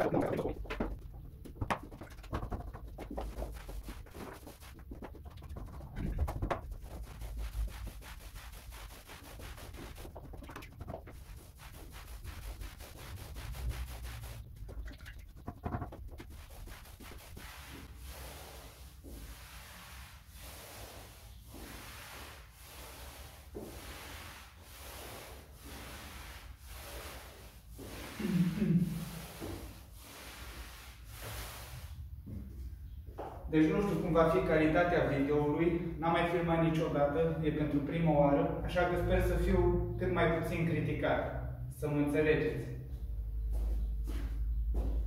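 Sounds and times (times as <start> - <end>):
paint roller swishing on wall: 0.0 - 32.6, 33.6 - 38.1, 42.9 - 45.0.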